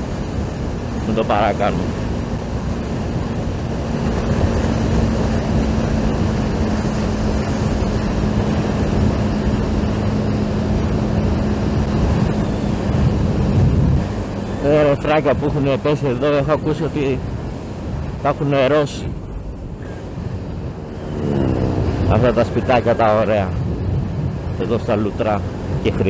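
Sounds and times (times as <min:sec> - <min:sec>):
motorcycle engine hum: 0:00.0 - 0:26.0
wind rushing over microphone: 0:00.0 - 0:26.0.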